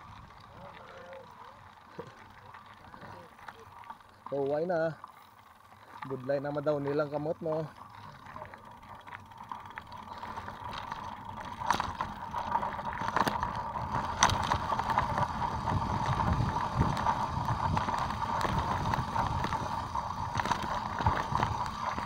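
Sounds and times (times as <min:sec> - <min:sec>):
bike tyres rumbling on dirt: 0:00.0 - 0:22.0.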